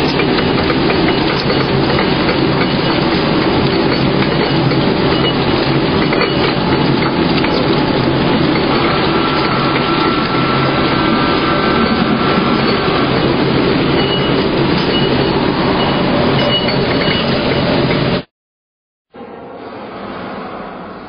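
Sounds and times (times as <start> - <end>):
sorting machine rattling: 0.0 - 18.2.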